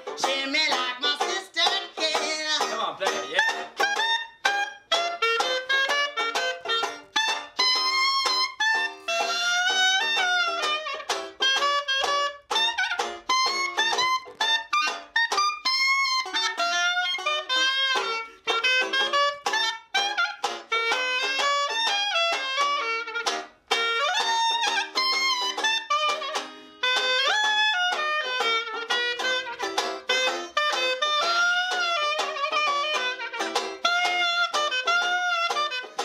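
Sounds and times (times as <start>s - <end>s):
banjo strumming chords: 0.0s - 36.0s
clarinet jazz melody: 0.0s - 36.0s.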